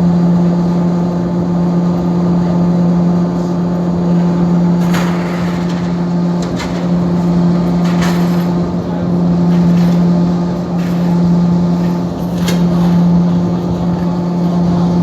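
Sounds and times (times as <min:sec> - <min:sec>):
ferry diesel engine drone: 0:00.0 - 0:15.0.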